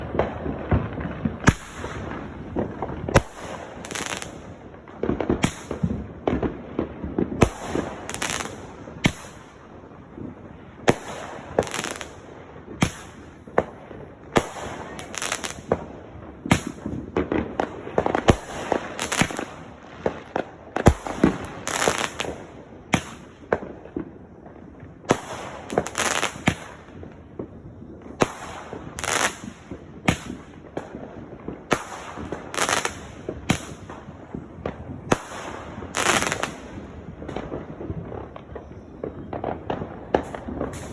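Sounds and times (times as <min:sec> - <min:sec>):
fireworks banging: 0:00.0 - 0:40.9.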